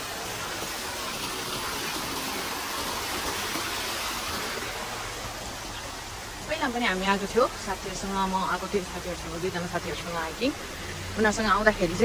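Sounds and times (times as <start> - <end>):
stream water gushing: 0.0 - 12.0.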